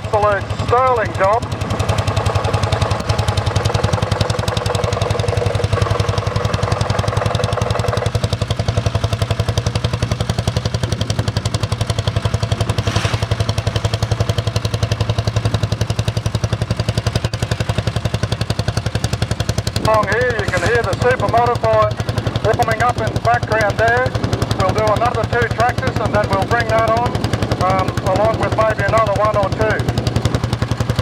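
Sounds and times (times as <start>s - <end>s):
engine working hard under load: 0.0s - 31.0s.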